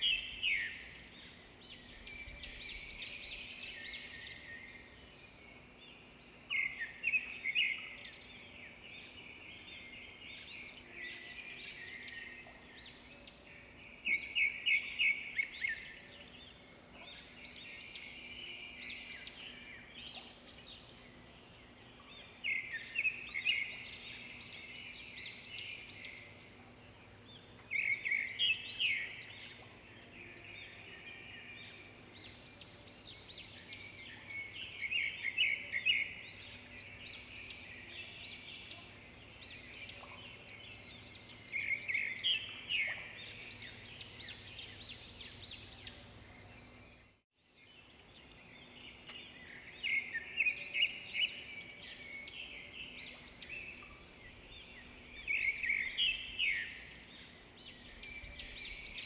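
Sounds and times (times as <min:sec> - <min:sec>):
quiet bird chirps: 0:00.0 - 0:59.0.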